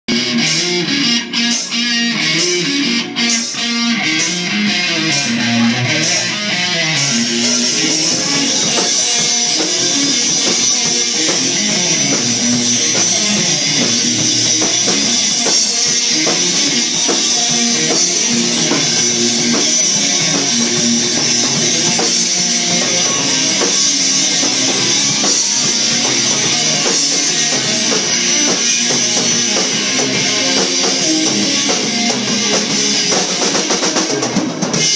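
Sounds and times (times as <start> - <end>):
drum kit: 0.1 - 34.9
electric guitar riff: 0.1 - 34.9.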